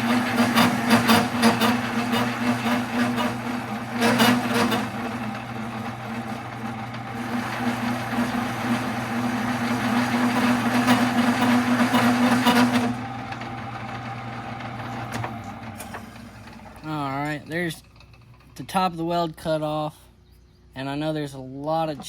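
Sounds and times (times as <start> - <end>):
metal lathe cutting steel: 0.0 - 18.3
lathe humming: 0.0 - 18.7.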